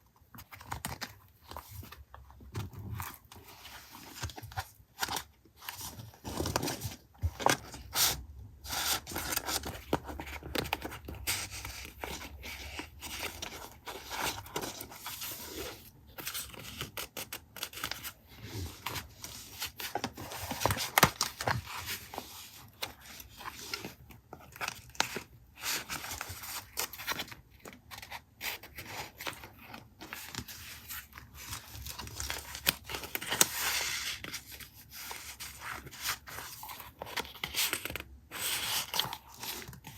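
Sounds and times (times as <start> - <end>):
paper rustling and scraping: 0.4 - 39.9.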